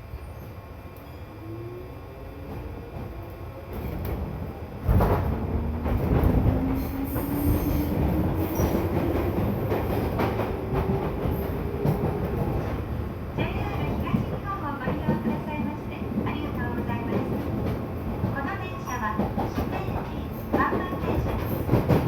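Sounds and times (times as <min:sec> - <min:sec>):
rumbling train wheels: 0:02.4 - 0:22.0.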